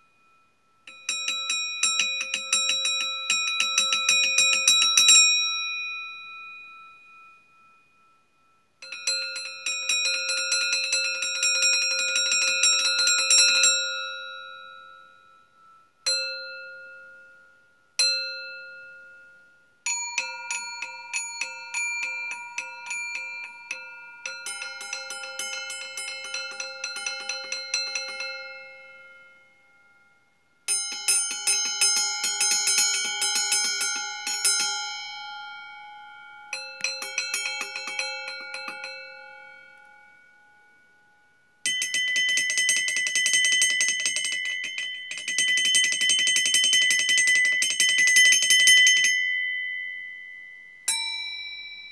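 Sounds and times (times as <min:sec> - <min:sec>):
steel bowls ringing: 0:00.0 - 0:51.9.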